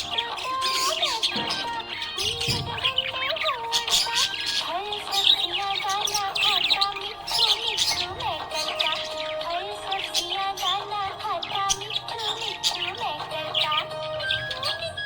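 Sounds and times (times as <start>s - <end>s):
background music with melody: 0.0s - 15.0s
budgies chirping: 0.0s - 15.0s.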